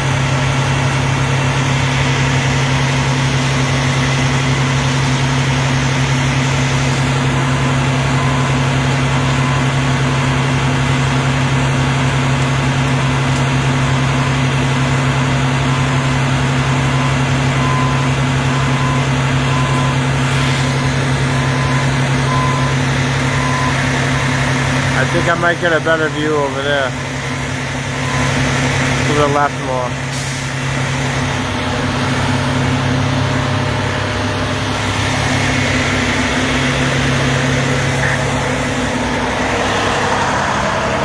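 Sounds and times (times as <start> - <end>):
large vehicle engine idling: 0.0 - 41.0.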